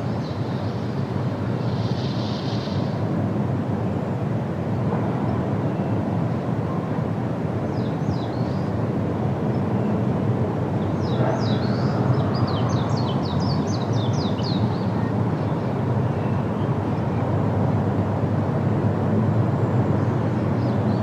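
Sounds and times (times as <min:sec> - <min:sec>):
wind blowing through trees: 0:00.0 - 0:21.0.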